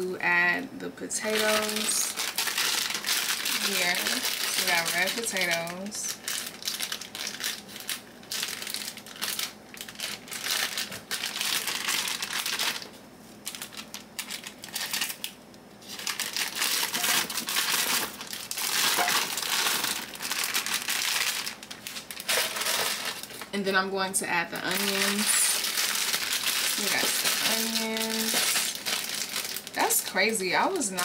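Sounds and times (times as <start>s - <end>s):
plastic bag crinkling: 1.2s - 23.6s, 24.5s - 31.0s.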